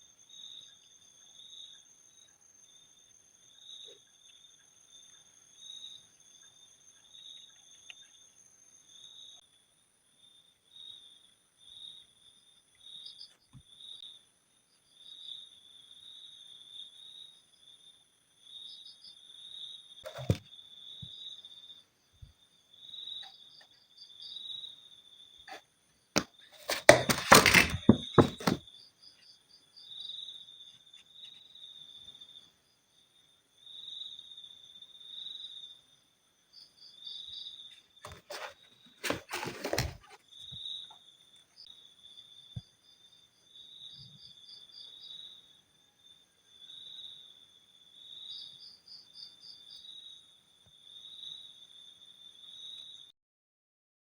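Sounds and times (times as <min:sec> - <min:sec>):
cricket chirping: 0:00.0 - 0:53.1.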